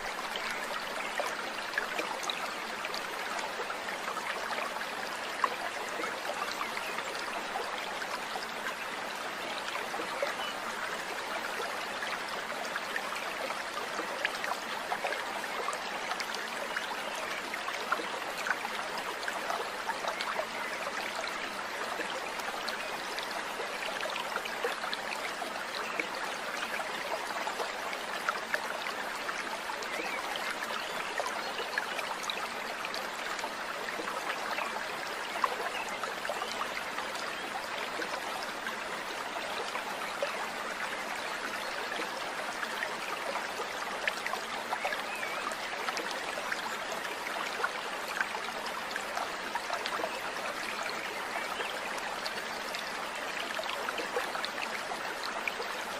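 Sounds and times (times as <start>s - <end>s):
stream trickling and babbling: 0.0s - 55.9s.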